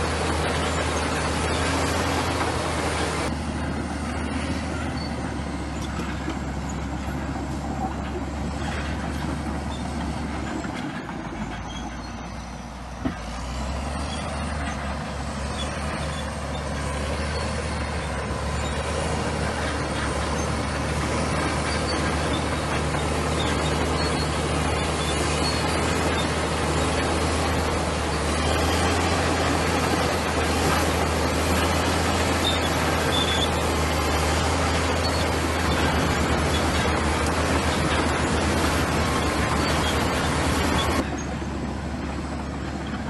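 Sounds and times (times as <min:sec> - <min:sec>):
bulldozer diesel engine droning: 0:00.0 - 0:43.0.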